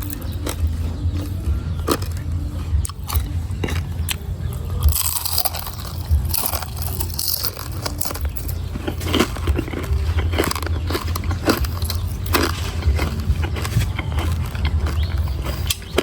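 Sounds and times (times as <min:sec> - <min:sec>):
crunchy chewing: 0:00.0 - 0:16.0.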